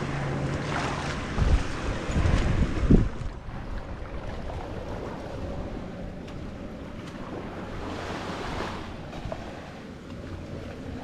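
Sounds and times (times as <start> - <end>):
wind buffeting microphone: 0.0 - 9.9
small waves lapping on beach: 0.0 - 11.0
water rushing up the shore: 0.0 - 11.0.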